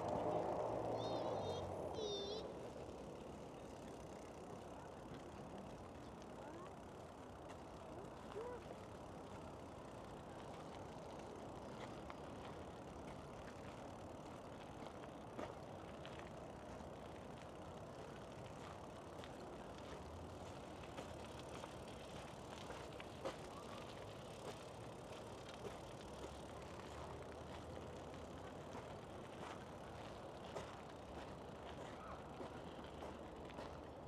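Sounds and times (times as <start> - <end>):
distant traffic hum: 0.0 - 34.0.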